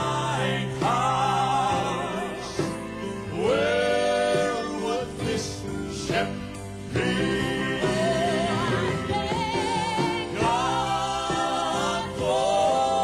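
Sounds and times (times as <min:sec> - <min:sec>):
band accompaniment: 0:00.0 - 0:13.0
group singing in harmony: 0:00.0 - 0:13.0.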